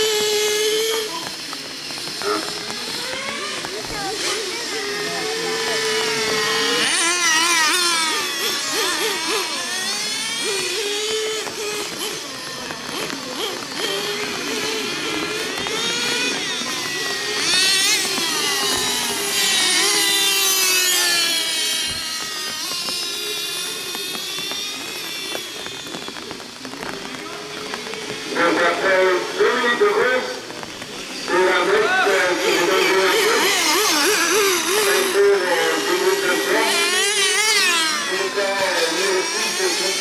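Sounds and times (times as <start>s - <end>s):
rc car engines buzzing: 0.0s - 40.0s.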